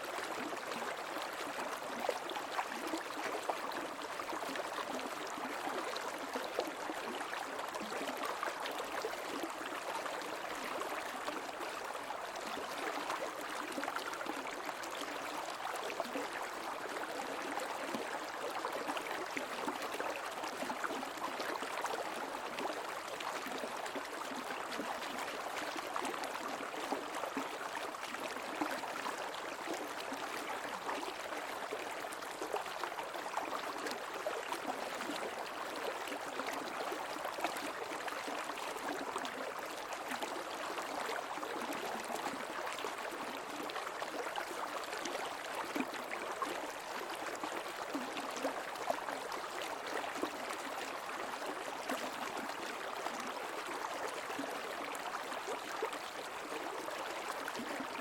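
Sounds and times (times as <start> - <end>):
creek water babbling: 0.0 - 58.0.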